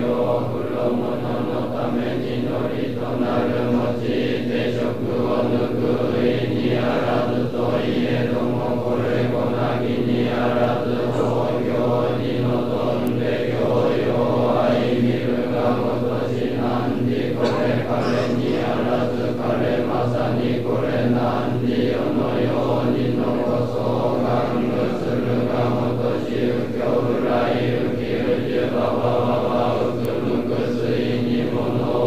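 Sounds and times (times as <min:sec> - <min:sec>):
monks chanting in unison: 0:00.0 - 0:32.0.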